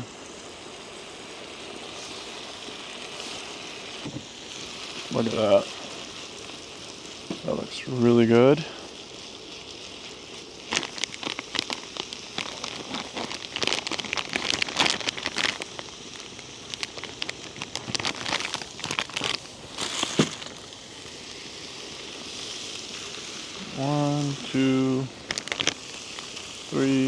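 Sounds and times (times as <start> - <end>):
meat and vegetables sizzling in a pan: 0.0 - 27.0.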